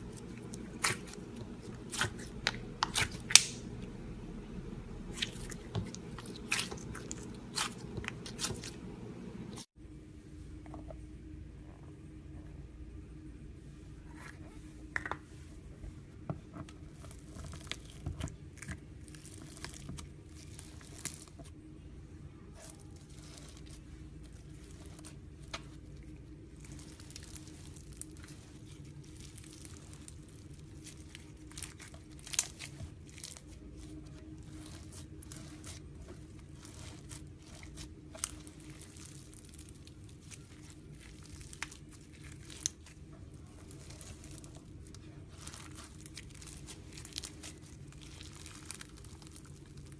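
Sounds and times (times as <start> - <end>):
slime crackling and popping: 0.0 - 8.8, 17.0 - 21.5, 22.6 - 49.9
steady low hum: 0.0 - 49.9.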